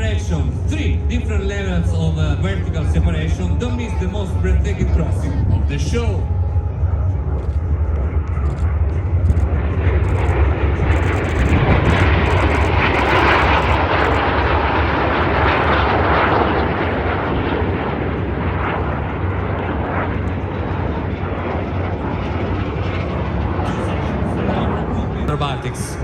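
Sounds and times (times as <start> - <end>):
jet aircraft roar: 0.0 - 26.0.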